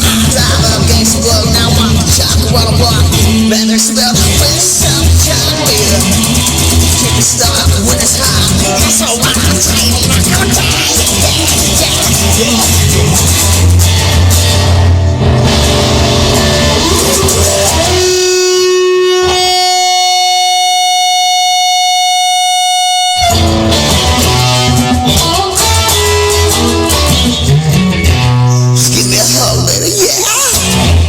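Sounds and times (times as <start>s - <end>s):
band playing a steady beat: 0.0s - 19.8s, 22.3s - 31.0s.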